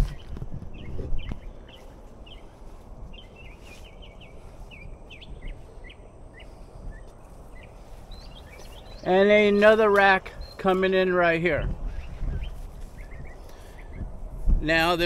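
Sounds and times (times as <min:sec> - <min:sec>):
low outdoor background noise: 0:00.0 - 0:15.0
small birds chirping: 0:00.0 - 0:15.0.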